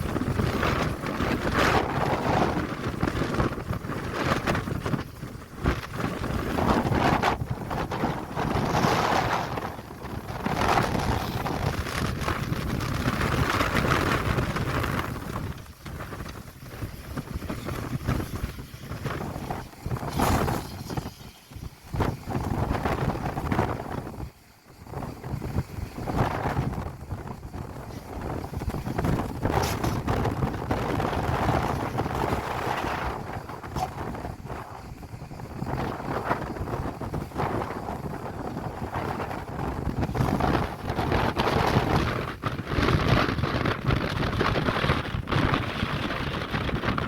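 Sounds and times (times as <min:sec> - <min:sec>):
locomotive running: 0:00.0 - 0:47.0
wind buffeting microphone: 0:00.0 - 0:47.0.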